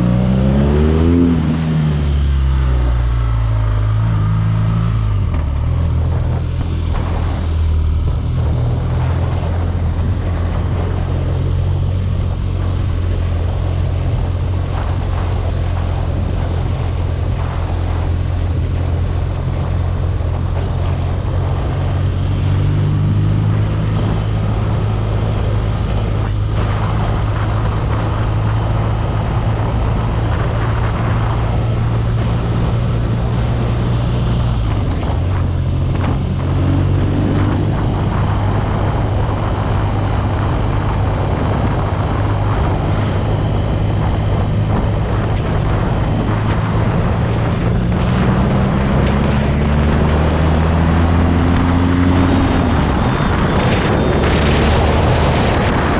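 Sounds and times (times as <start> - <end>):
motorcycle engine running: 0.0 - 55.9
steady rushing noise: 0.0 - 55.9.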